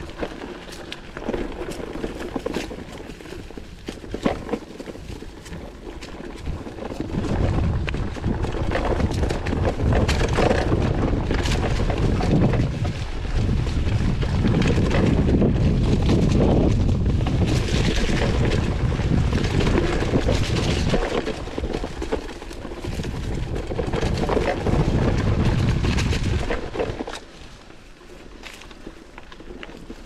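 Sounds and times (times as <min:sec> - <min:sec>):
bike rattling and clicking: 0:00.0 - 0:30.0
bike tyre noise: 0:00.0 - 0:30.0
wind buffeting microphone: 0:01.0 - 0:27.6.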